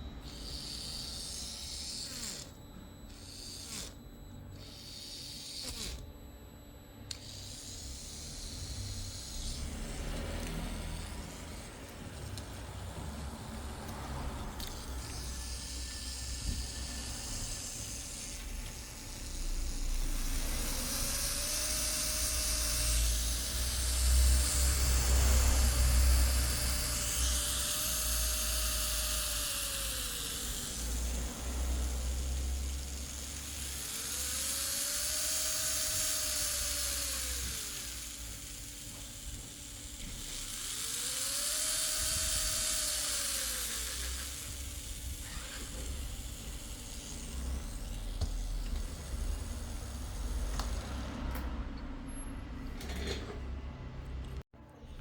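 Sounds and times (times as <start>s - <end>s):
nail drill motor whining: 0.0s - 51.1s.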